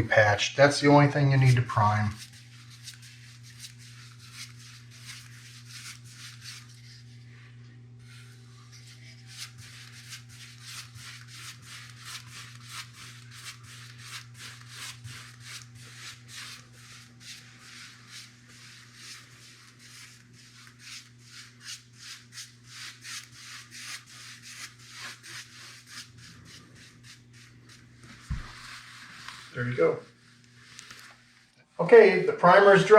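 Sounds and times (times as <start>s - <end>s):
paintbrush swishing on wall: 1.4s - 7.4s, 8.0s - 31.5s.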